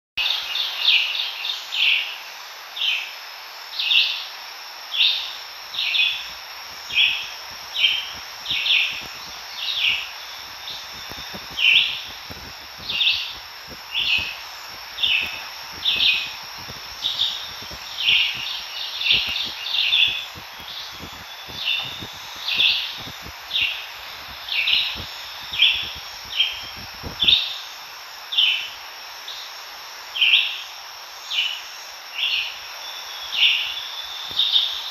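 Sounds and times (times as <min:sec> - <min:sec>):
insects droning: 0:00.2 - 0:34.9.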